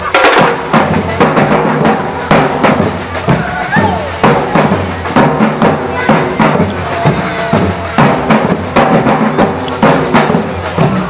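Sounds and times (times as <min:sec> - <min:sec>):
drum band playing: 0:00.0 - 0:11.0.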